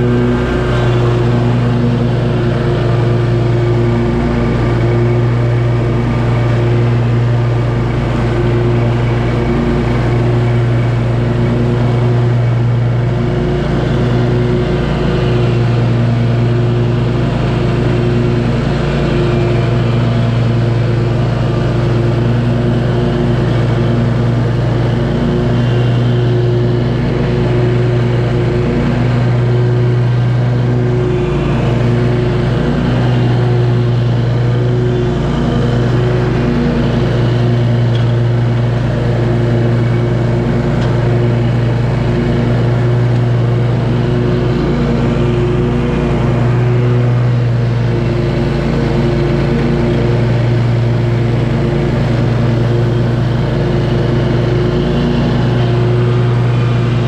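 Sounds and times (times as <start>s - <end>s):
mower engine humming: 0.0s - 57.0s.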